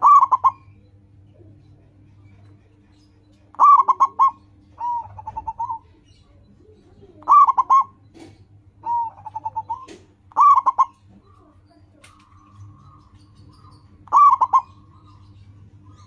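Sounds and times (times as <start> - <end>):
dove cooing: 0.0 - 2.8, 3.5 - 16.0.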